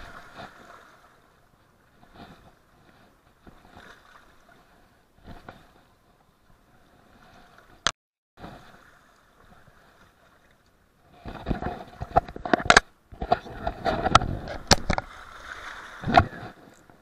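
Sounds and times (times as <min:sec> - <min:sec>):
faint rushing river water: 0:00.0 - 0:12.3, 0:12.9 - 0:17.0.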